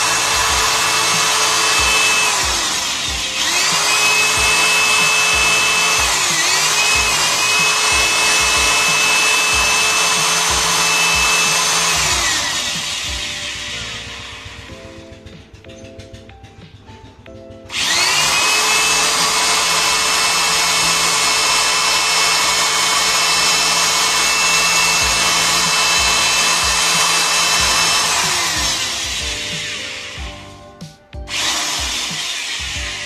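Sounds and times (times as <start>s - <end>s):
electric drill boring into wood: 0.0s - 15.2s, 17.7s - 30.5s, 31.3s - 33.0s.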